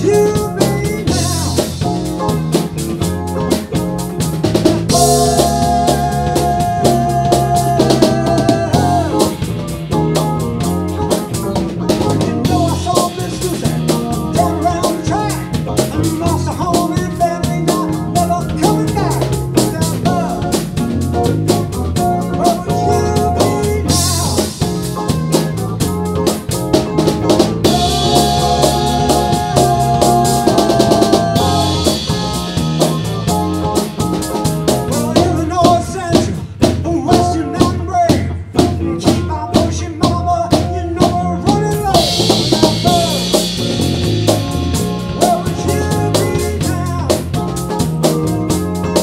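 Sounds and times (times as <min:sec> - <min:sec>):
live rock band playing: 0:00.0 - 0:49.0.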